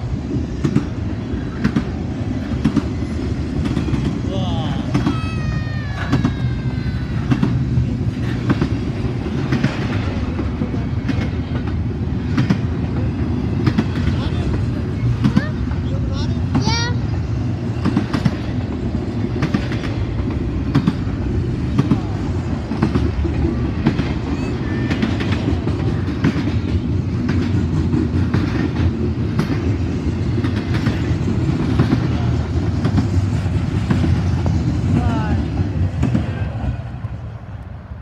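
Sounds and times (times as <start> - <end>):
freight train rumbling past: 0.0 - 38.0
wheels clacking on rails: 0.0 - 38.0.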